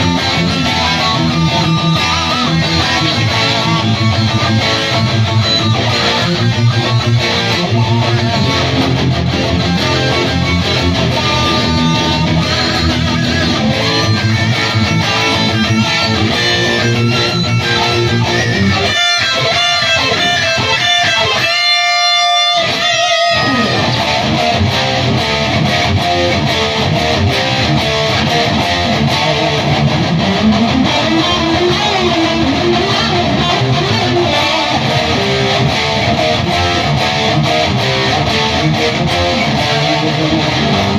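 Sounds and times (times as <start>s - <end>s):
electric guitar playing: 0.0s - 40.9s.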